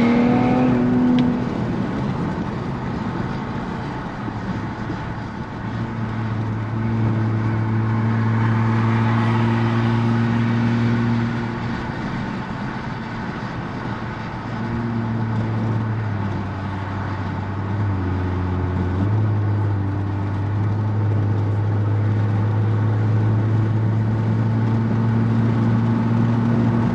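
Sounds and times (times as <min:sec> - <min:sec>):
car engine droning: 0:00.0 - 0:26.9.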